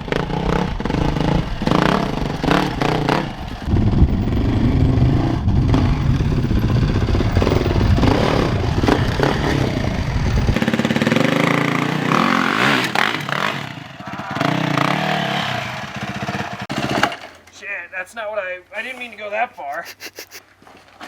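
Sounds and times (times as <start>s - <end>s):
dirt bike engine revving: 0.0s - 17.3s.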